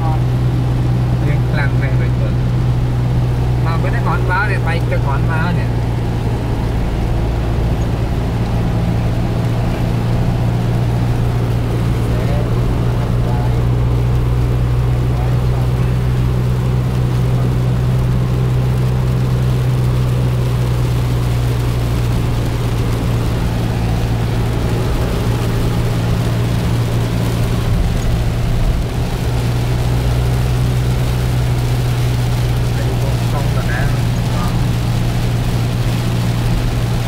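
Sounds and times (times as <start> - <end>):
rain and tyres hissing: 0.0 - 37.0
vehicle engine and road hum: 0.0 - 37.0.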